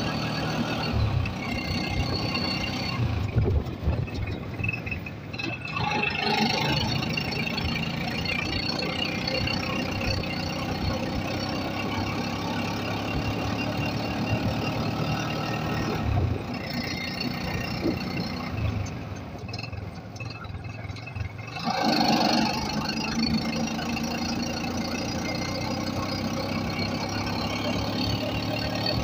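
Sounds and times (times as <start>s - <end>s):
motorcycle engine running: 0.0s - 29.0s
road noise: 0.0s - 29.0s.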